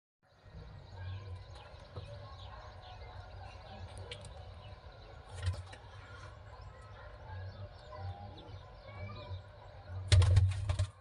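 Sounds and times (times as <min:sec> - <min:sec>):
faint bird chirps: 0:00.2 - 0:11.0.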